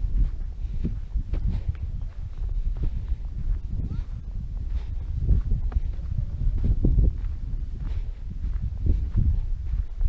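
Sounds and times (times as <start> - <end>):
footsteps on dirt and grass: 0.0 - 10.0
wind rumble on the microphone: 0.0 - 10.0.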